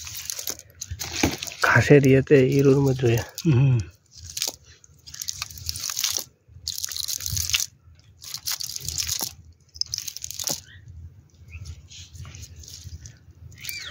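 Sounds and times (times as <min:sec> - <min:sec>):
wet net rustling and crackling: 0:00.0 - 0:10.8, 0:11.5 - 0:13.9.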